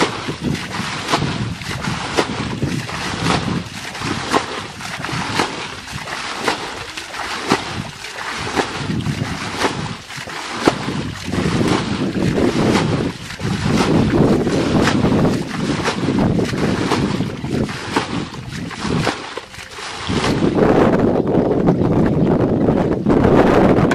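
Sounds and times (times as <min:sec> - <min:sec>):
bucket scooping water: 0:00.0 - 0:23.9.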